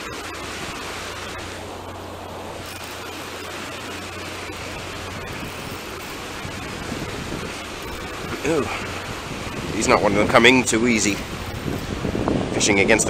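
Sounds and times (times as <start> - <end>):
river rushing over rapids: 0.0 - 12.8.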